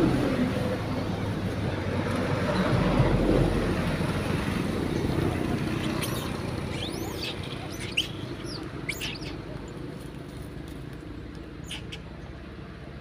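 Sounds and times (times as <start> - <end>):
vehicle passing on road: 0.0 - 13.0.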